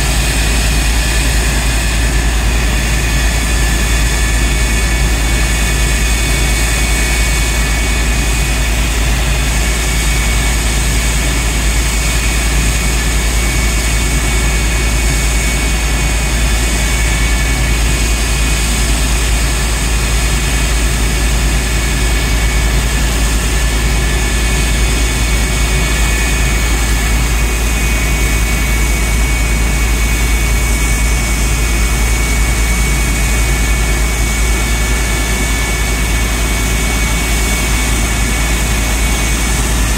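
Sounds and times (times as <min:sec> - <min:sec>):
high-pitched whine: 0:00.0 - 0:39.9
jet engine roaring: 0:00.0 - 0:39.9.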